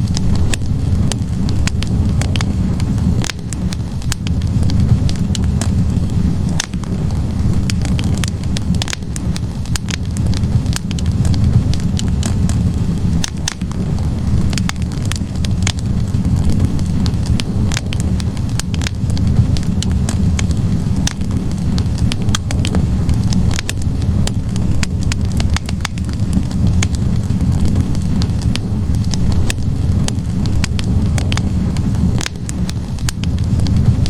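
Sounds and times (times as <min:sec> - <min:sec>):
logs crackling and popping: 0:00.0 - 0:34.0
low rumble of flames: 0:00.0 - 0:34.0.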